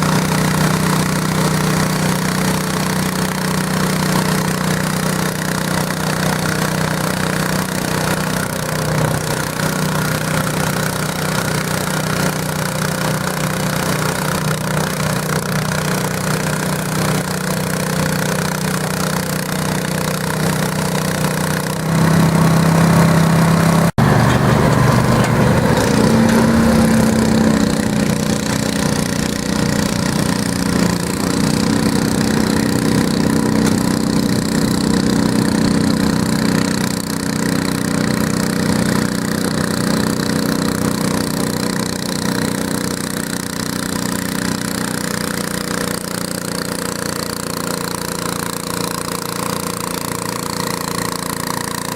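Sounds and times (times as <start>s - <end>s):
garden tractor engine running: 0.0s - 51.9s.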